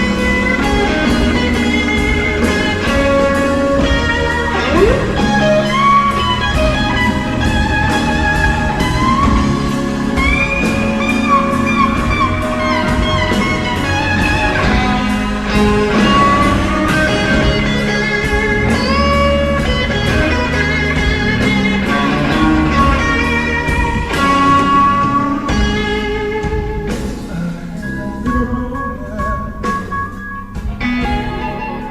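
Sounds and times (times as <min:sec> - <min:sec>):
electric blues guitar solo: 0:00.0 - 0:28.8, 0:29.6 - 0:31.9
bass guitar: 0:00.0 - 0:31.9
drums: 0:00.0 - 0:31.9.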